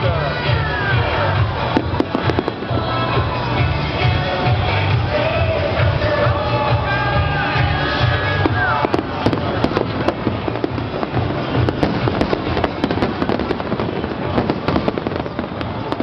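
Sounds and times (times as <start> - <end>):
fireworks crackling and popping: 0.0 - 16.0
music: 0.0 - 16.0.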